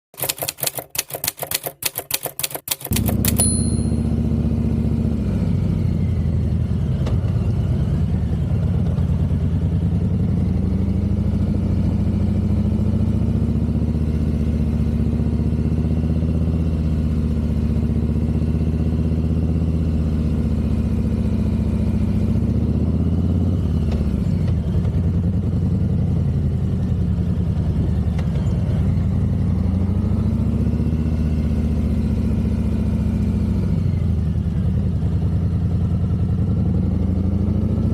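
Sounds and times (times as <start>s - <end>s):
motorcycle engine running: 0.2s - 37.9s.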